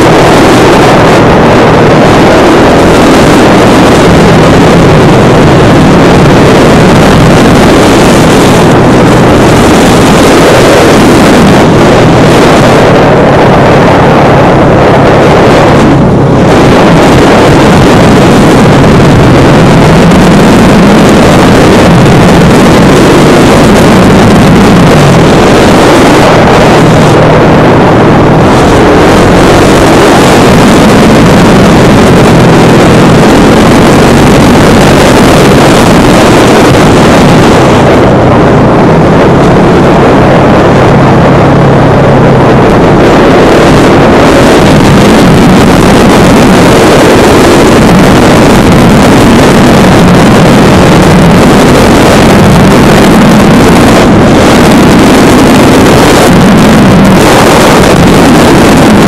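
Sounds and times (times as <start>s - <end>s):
motorcycle engine running: 0.0s - 56.2s
wind noise on microphone: 0.0s - 59.0s.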